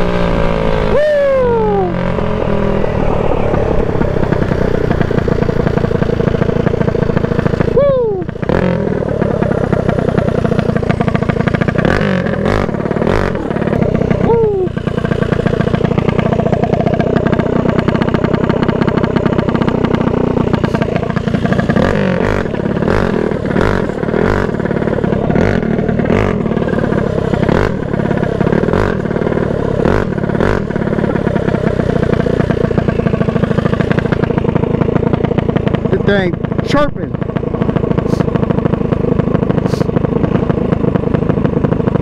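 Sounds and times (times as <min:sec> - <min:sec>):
mini bike engine running: 0:00.0 - 0:42.0.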